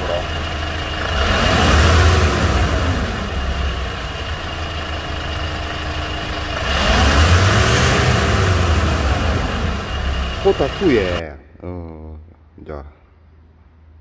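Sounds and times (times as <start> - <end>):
diesel engine revving: 0.0 - 11.2.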